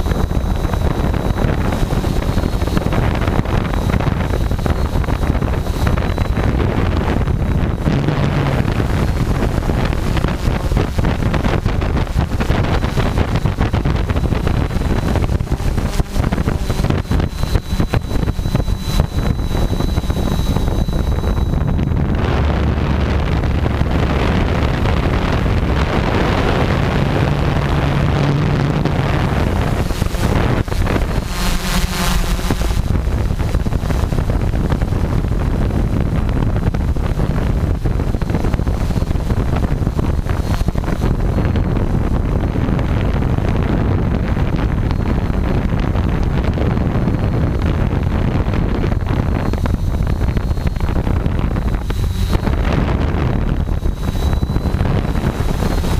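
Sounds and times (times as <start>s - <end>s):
drone motors and propellers: 0.0s - 55.9s
wind buffeting microphone: 0.0s - 55.9s.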